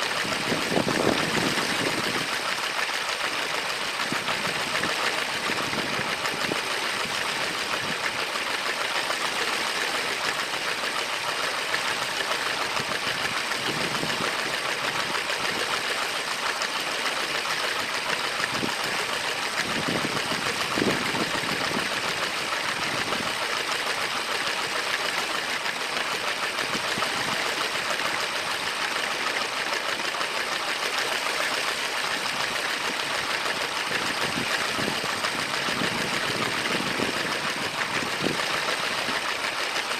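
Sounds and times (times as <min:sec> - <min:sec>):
toy train motor rattle and buzz: 0:00.0 - 0:39.9.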